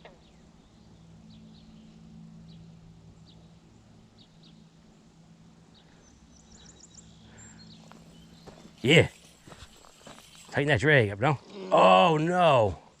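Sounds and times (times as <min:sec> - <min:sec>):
birds chirping: 0:00.0 - 0:12.8
steady low hum: 0:00.0 - 0:13.0.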